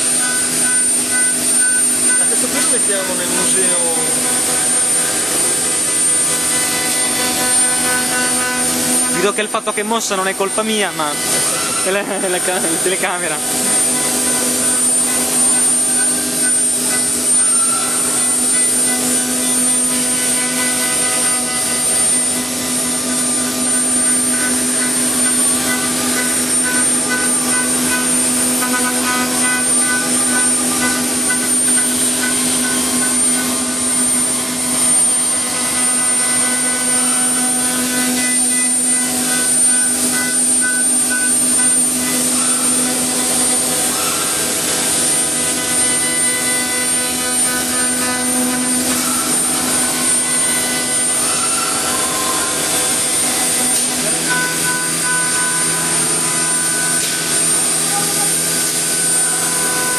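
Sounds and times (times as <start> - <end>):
woodworking machine whining: 0.0 - 59.9.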